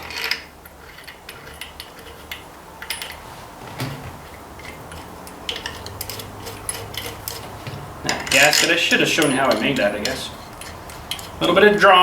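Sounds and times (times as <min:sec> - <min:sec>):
metal clinks of tools and bolts: 0:00.0 - 0:03.2, 0:04.6 - 0:11.4.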